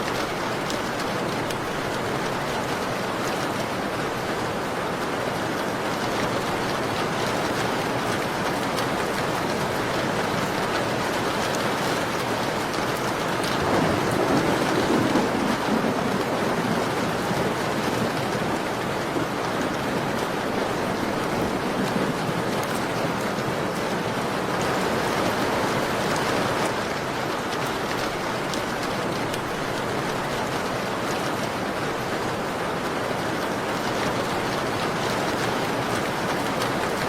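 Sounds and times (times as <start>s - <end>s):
rain pattering on window: 0.0s - 37.0s.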